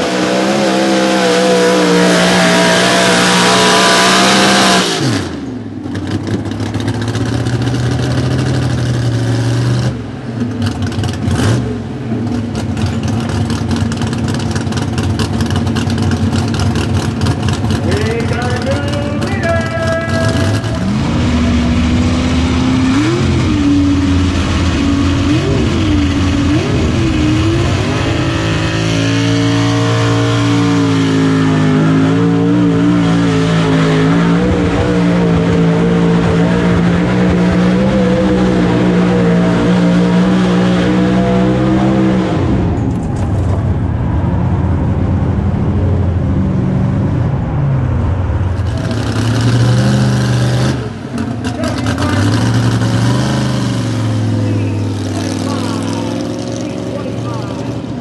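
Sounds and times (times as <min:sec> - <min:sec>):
truck engine at full throttle: 0:00.0 - 0:58.0.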